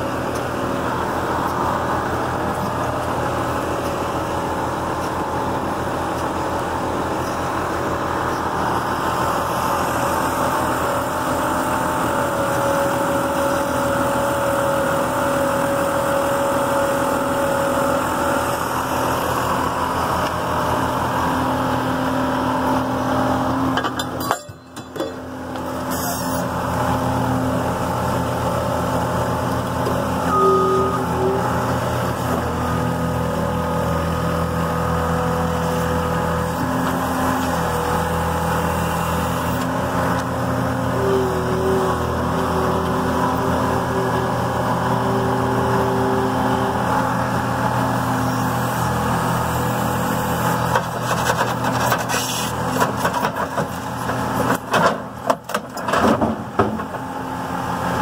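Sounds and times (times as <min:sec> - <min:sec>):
grinder machinery drone: 0:00.0 - 0:55.2.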